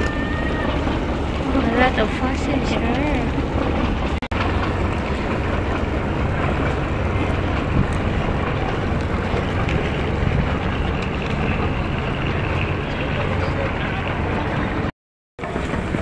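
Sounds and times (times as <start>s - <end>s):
ferry engines droning: 0.0s - 16.0s
wind noise on microphone: 0.0s - 16.0s.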